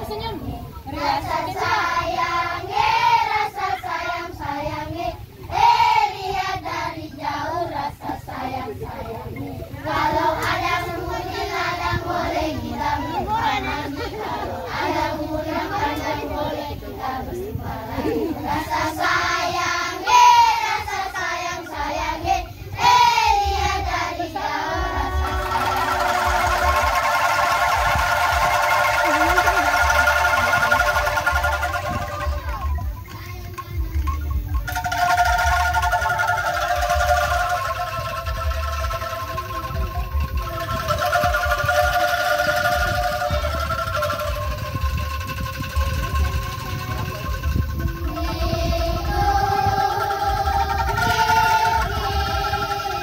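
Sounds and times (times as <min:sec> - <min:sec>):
children singing together: 0:00.0 - 0:44.4, 0:47.9 - 0:53.0
bamboo angklung rattling: 0:00.0 - 0:53.0.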